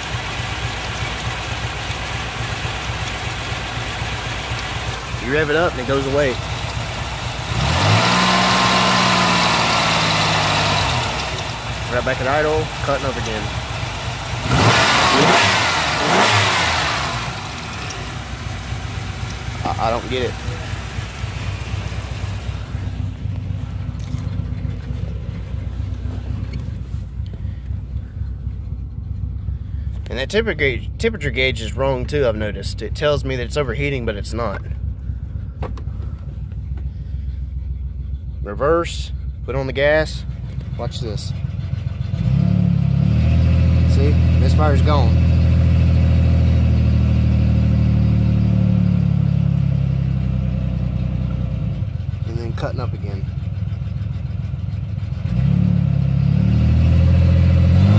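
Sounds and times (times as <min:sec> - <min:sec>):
car engine idling and misfiring: 0:00.0 - 0:57.9.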